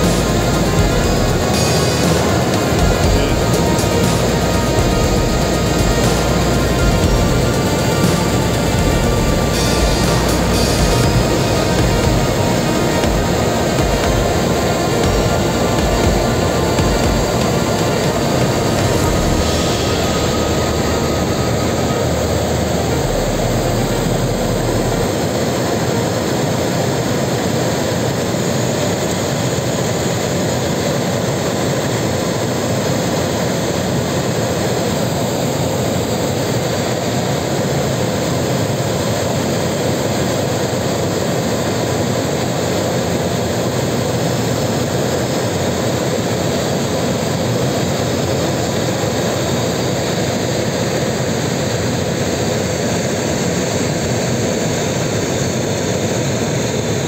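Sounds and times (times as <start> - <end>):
airflow rushing past cockpit: 0.0 - 57.0.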